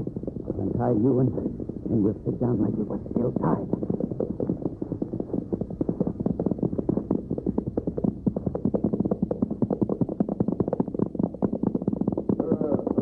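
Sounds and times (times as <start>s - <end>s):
horses galloping hoofbeats: 0.0s - 13.0s.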